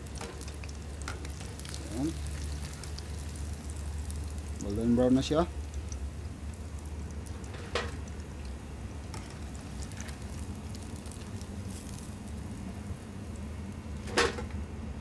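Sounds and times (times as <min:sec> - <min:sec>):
hot oil sizzling: 0:00.0 - 0:14.4
steady low hum: 0:00.0 - 0:15.0.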